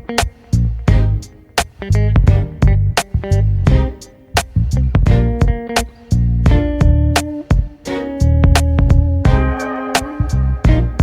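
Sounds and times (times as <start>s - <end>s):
bass: 0.0s - 11.0s
plucked guitar: 0.0s - 11.0s
steady drum beat: 0.0s - 11.0s.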